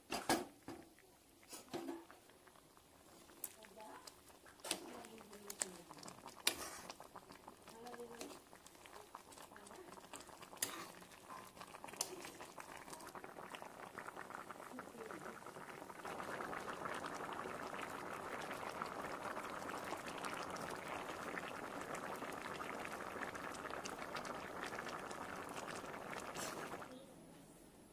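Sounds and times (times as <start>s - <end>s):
curry bubbling in a pan: 0.0s - 27.1s.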